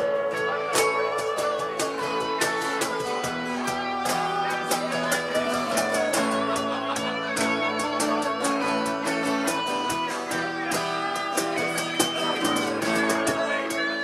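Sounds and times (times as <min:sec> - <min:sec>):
acoustic guitar strumming: 0:00.0 - 0:14.0
electric guitar melody: 0:00.0 - 0:14.0.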